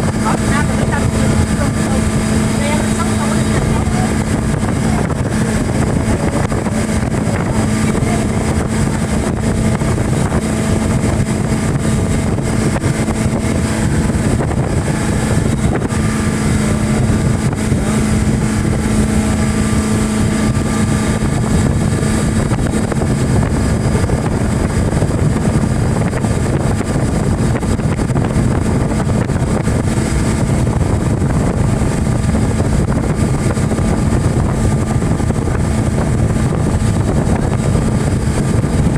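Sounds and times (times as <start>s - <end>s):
speedboat engine running: 0.0s - 38.9s.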